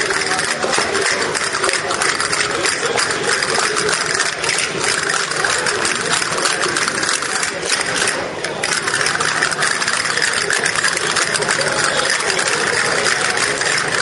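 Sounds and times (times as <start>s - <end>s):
dancers clicking and clapping: 0.0s - 14.0s.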